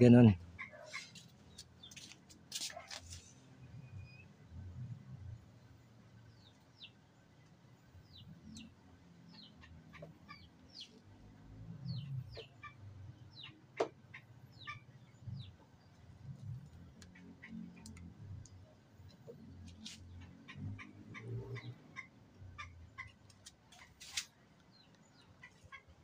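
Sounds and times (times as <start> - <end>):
chickens clucking faintly: 0.0 - 26.0
small birds chirping: 0.0 - 26.0.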